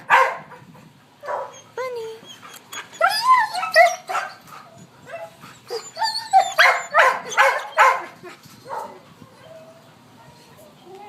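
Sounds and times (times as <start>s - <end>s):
dogs barking and yelping: 0.0s - 10.8s.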